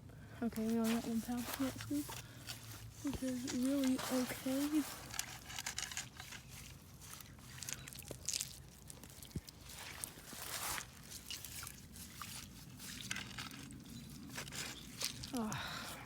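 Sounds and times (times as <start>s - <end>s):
footsteps in wet ground: 0.5s - 16.0s
rustling and scraping of net: 0.5s - 16.0s.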